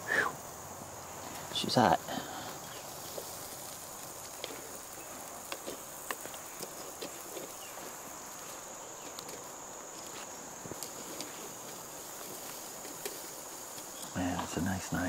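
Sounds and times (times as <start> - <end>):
fire popping and crackling: 0.0 - 15.0
insect drone: 0.0 - 15.0.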